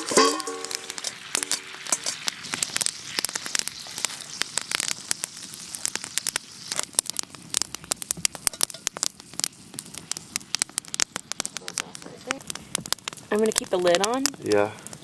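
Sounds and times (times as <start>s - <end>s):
campfire crackling: 0.0s - 15.0s
food frying in a skillet: 0.0s - 15.0s.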